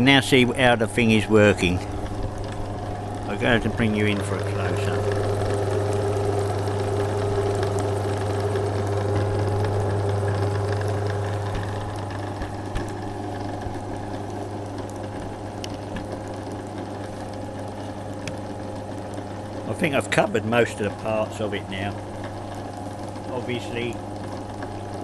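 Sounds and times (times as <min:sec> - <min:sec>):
lathe motor humming: 0:00.0 - 0:25.0.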